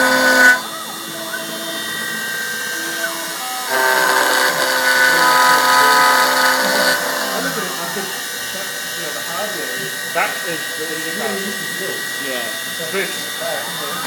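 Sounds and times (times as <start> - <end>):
milling machine motors whining: 0.0 - 14.0.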